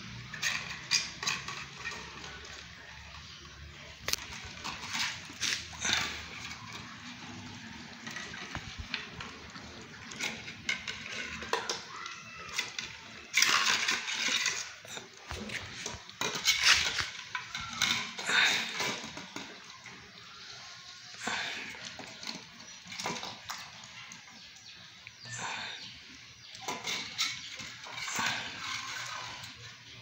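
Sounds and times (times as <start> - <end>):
metal bowl clinking and scraping: 0.0 - 25.7, 26.3 - 30.0.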